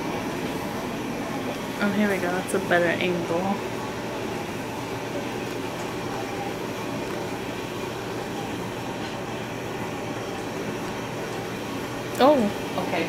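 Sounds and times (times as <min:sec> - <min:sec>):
room noise hum: 0:00.0 - 0:13.0.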